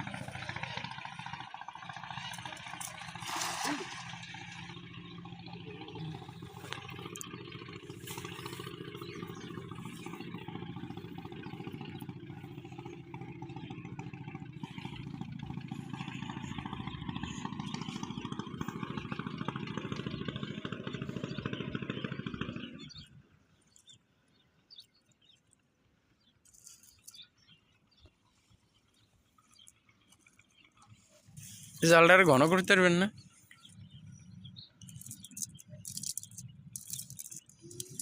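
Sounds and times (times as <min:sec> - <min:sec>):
small engine running: 0:00.0 - 0:24.4, 0:26.2 - 0:38.0.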